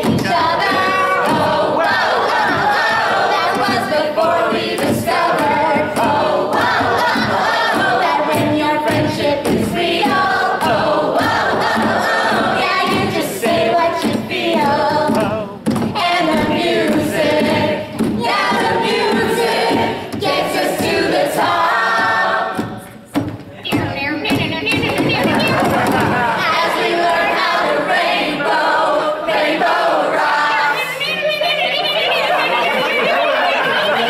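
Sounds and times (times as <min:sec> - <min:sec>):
women singing together: 0:00.0 - 0:23.0, 0:24.3 - 0:34.0.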